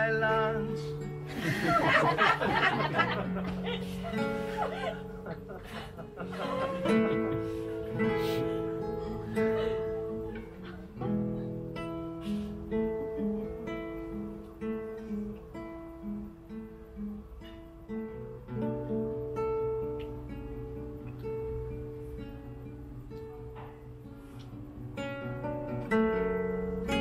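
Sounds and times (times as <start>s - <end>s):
plucked acoustic guitar chords: 0.0s - 27.0s.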